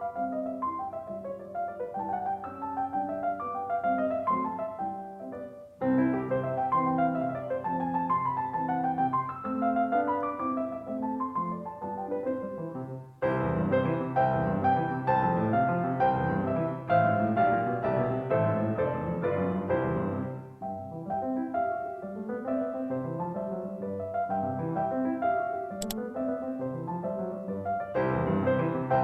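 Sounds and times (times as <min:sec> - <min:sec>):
soft piano music: 0:00.0 - 0:29.0.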